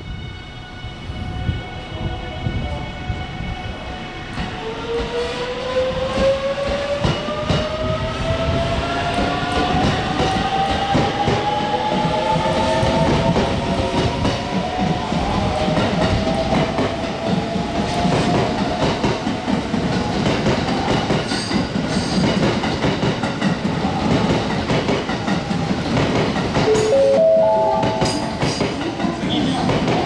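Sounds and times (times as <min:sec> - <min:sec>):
train wheels on rails: 0:01.0 - 0:30.0.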